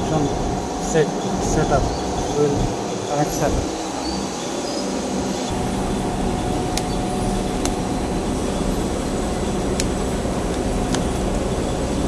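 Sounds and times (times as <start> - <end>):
industrial machinery humming: 0.0 - 12.0.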